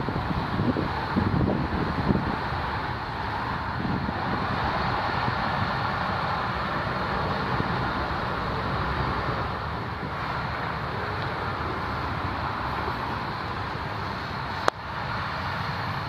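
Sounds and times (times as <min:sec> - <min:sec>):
jet engine noise: 0:00.0 - 0:16.0.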